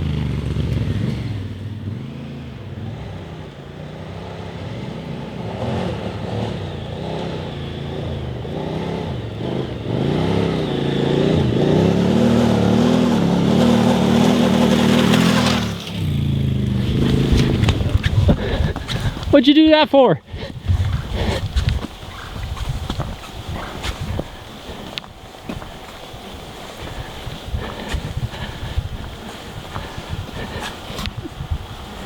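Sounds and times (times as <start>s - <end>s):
motorcycle engine revving: 0.0s - 19.4s, 20.2s - 32.0s.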